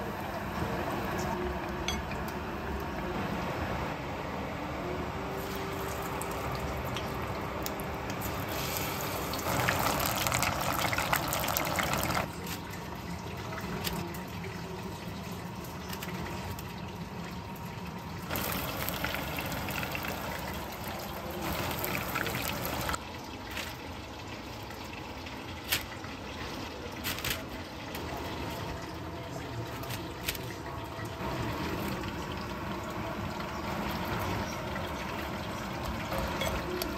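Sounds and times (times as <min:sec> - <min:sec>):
oil sizzling: 0:05.2 - 0:14.5, 0:15.2 - 0:36.9.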